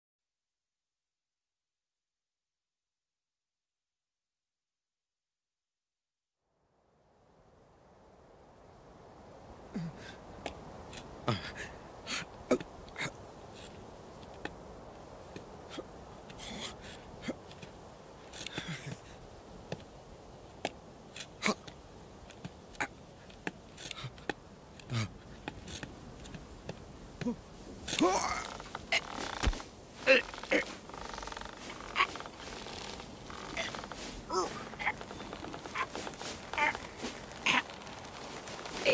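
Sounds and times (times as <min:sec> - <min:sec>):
steady soft hiss: 0:06.6 - 0:38.9.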